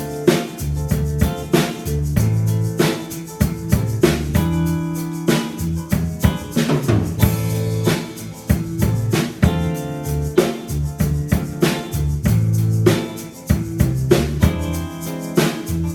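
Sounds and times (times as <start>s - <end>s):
bass drum and snare beating: 0.0s - 15.9s
live rock band playing: 0.0s - 15.9s.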